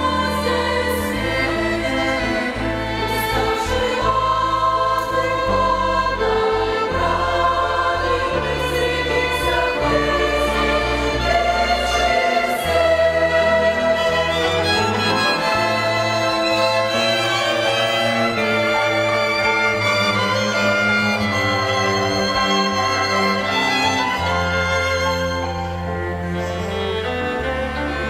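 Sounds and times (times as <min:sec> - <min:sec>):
choir singing sustained chords: 0:00.0 - 0:28.0
violin ensemble: 0:00.0 - 0:28.0.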